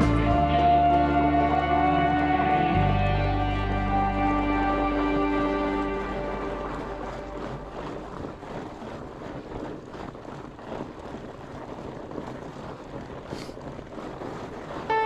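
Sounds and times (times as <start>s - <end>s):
bike tyres rumbling on dirt: 2.7s - 15.0s.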